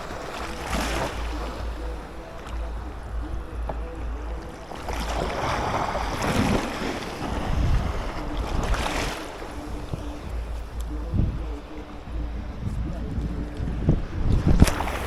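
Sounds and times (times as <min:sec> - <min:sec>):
sea waves surging: 0:00.0 - 0:15.0
wind buffeting microphone: 0:00.0 - 0:15.0.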